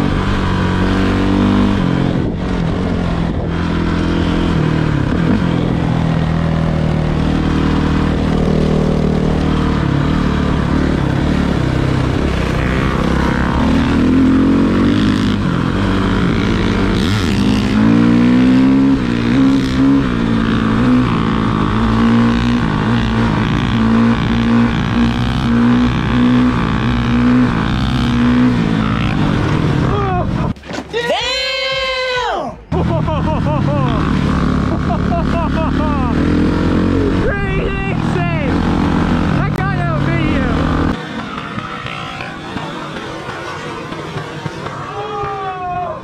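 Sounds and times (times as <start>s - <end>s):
dirt bike engine revving: 0.0s - 30.6s, 32.7s - 46.0s.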